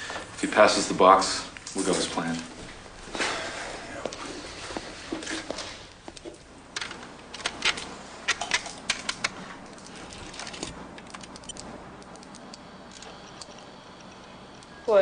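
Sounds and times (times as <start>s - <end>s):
faint steady background noise: 0.0s - 15.0s.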